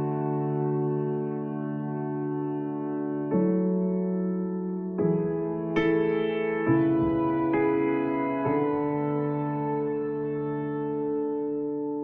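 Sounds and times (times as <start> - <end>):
soft sustained keyboard chord: 0.0 - 12.0.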